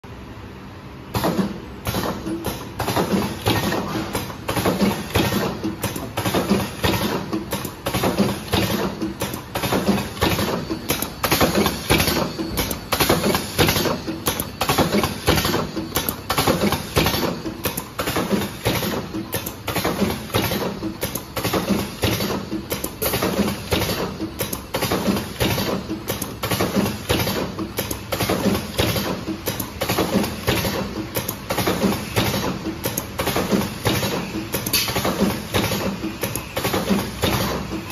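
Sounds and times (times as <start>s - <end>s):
cartoning machine clicking and clattering: 1.1s - 37.9s.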